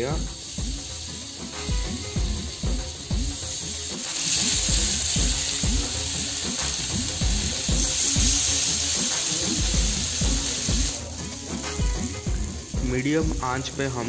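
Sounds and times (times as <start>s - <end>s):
background music with beat: 0.0s - 14.0s
fish sizzling in oil: 0.0s - 14.0s.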